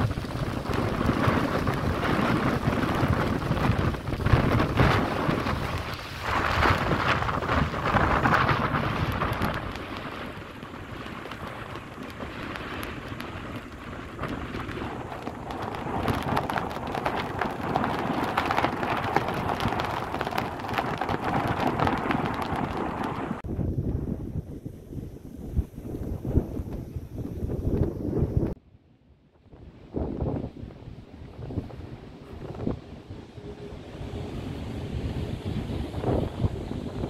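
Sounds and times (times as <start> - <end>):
surf breaking on beach: 0.0 - 23.4, 29.9 - 37.0
wind rumbling on microphone: 0.0 - 37.0.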